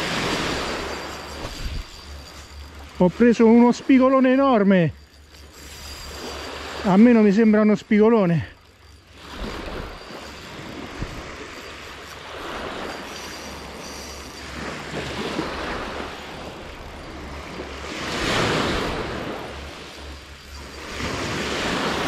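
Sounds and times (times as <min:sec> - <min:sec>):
small waves breaking on sand: 0:00.0 - 0:22.0.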